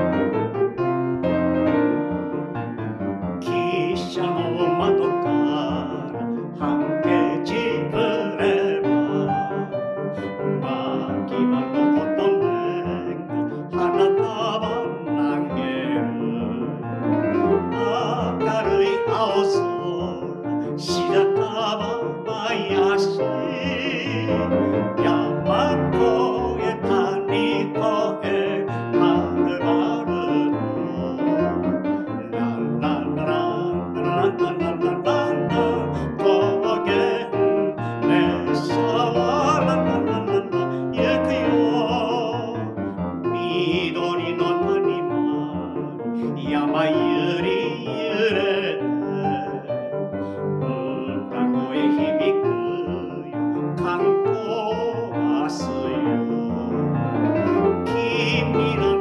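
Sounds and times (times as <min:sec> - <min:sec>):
grand piano: 0:00.0 - 0:59.0
man singing: 0:03.4 - 0:59.0.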